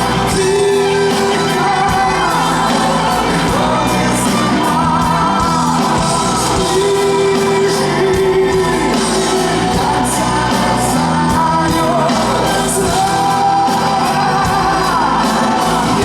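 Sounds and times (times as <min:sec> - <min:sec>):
drums: 0:00.0 - 0:16.0
live band music: 0:00.0 - 0:16.0.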